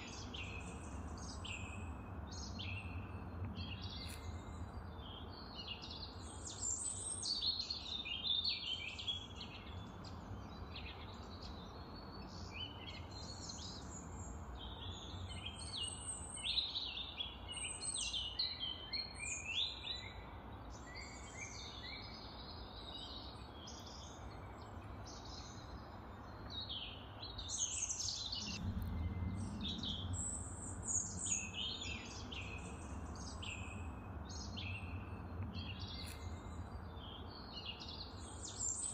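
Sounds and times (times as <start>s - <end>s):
birds chirping and singing: 0.0s - 38.9s
steady low hiss: 0.0s - 38.9s.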